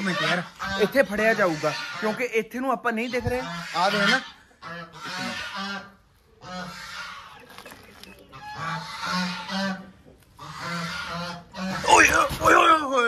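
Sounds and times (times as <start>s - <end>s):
fowl calling: 0.0s - 12.3s.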